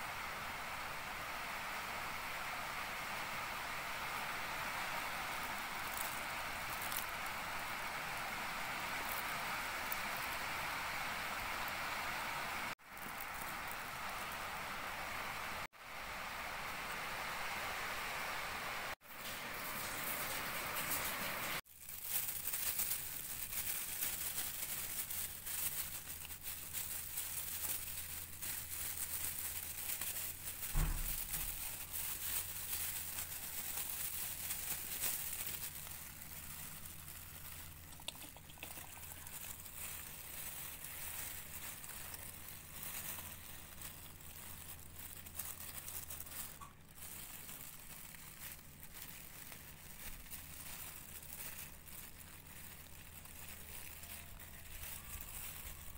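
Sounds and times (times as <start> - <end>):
tissue paper rustling: 1.4 - 15.8, 18.9 - 55.9
plastic bags crinkling: 4.0 - 11.9, 12.7 - 14.7, 18.9 - 55.9.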